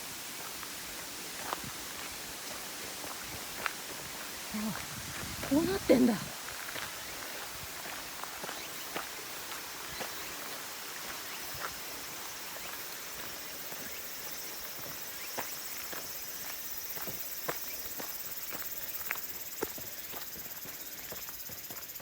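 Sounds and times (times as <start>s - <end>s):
footsteps on a trail: 0.0s - 22.0s
steady rushing hiss: 0.0s - 22.0s.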